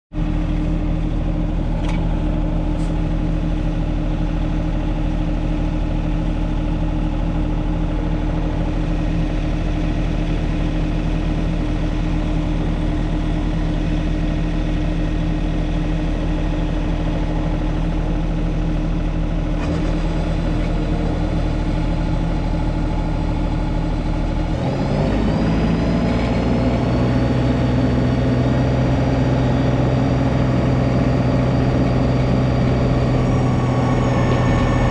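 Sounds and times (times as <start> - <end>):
high engine whine: 0.1 - 34.9
tractor diesel engine running: 0.1 - 34.9.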